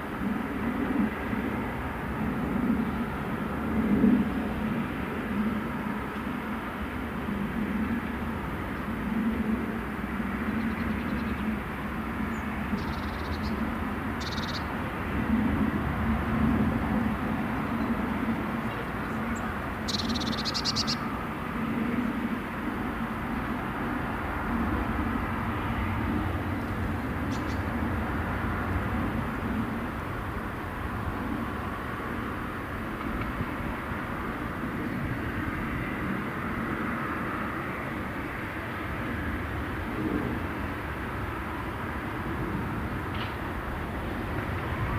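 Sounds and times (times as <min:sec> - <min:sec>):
freight train passing: 0:00.0 - 0:44.9.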